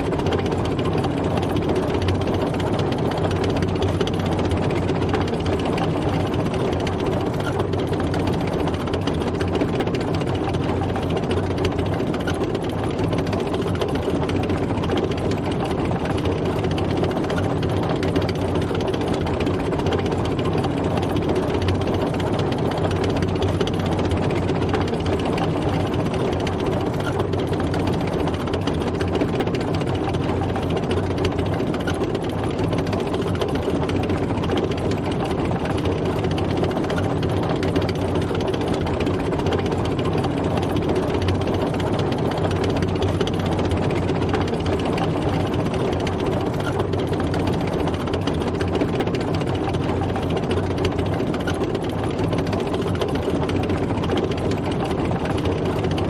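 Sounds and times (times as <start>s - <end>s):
tank engine running: 0.0s - 56.0s.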